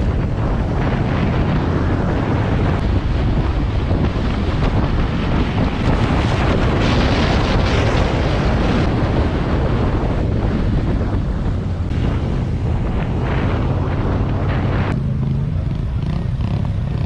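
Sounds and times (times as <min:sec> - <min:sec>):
motorcycle engine and road noise: 0:00.0 - 0:17.0
wind buffeting microphone: 0:00.0 - 0:17.0.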